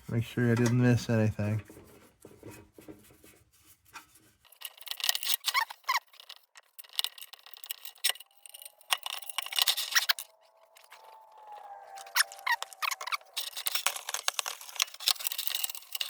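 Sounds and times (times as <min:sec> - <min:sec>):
bristle brush scrubbing metal: 0:00.0 - 0:16.0.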